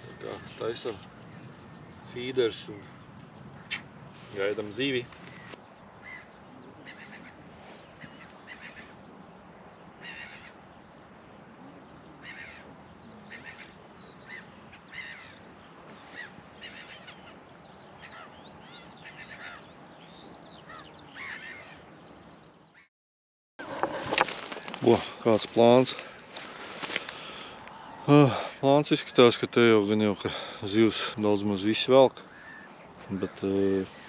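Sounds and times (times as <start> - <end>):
birds chirping: 0.0 - 22.9, 23.6 - 34.0.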